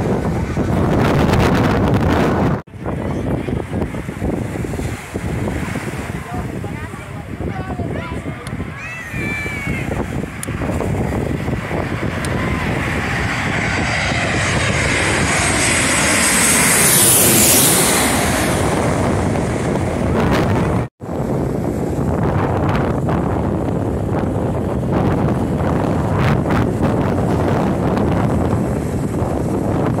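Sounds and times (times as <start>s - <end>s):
jet airliner passing overhead: 0.0s - 30.0s
wind on the microphone: 0.0s - 30.0s.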